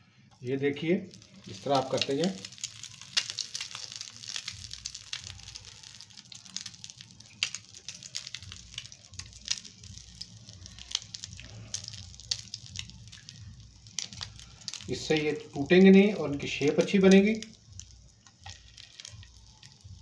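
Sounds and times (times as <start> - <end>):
food sizzling in hot oil: 0.4 - 20.0.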